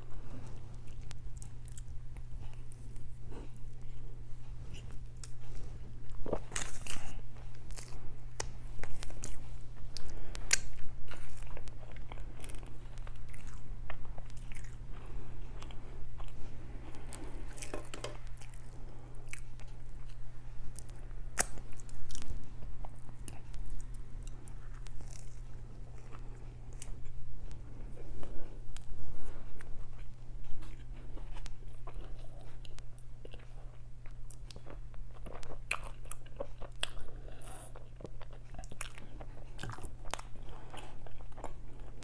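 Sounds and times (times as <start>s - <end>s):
chewing and biting: 0.0s - 42.0s.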